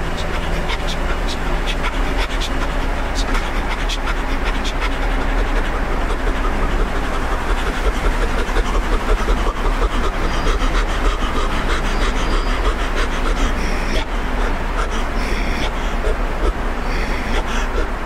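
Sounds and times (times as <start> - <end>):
man vocalising wordlessly: 0.0 - 10.4, 13.3 - 18.0.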